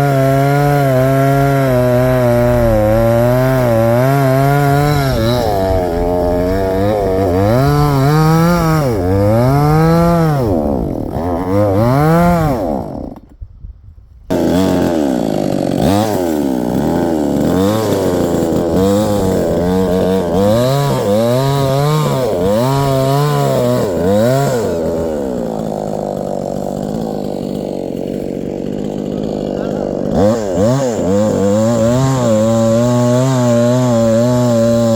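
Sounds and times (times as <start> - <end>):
chainsaw cutting a tree: 0.0 - 13.4, 14.3 - 34.9.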